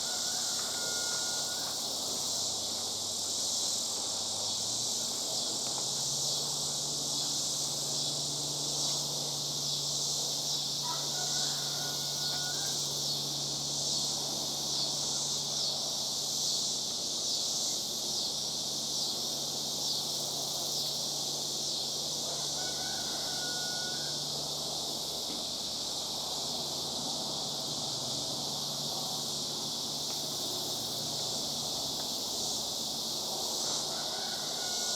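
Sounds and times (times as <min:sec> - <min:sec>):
cicadas droning: 0:00.0 - 0:34.9.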